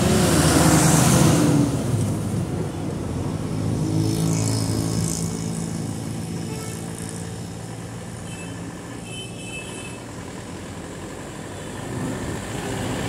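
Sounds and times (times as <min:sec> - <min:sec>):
bus engine passing by: 0:00.0 - 0:13.0.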